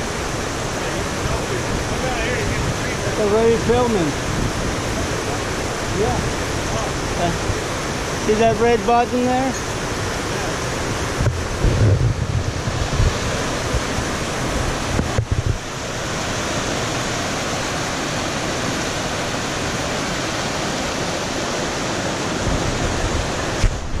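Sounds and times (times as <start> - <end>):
wind buffeting microphone: 0.0 - 8.4, 9.7 - 24.0
creek rushing over rocks: 0.0 - 24.0.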